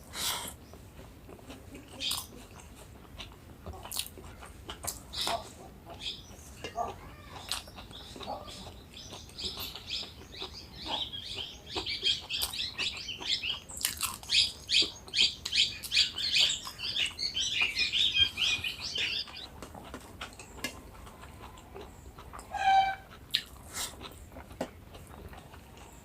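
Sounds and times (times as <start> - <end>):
crunching and chewing crisp papad: 0.1 - 26.0.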